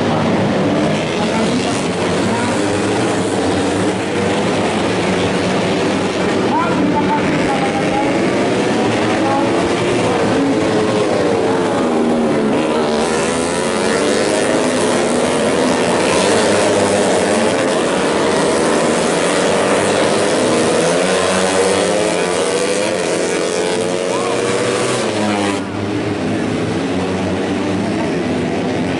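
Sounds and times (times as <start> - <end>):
racing motorcycle engines: 0.0 - 28.9.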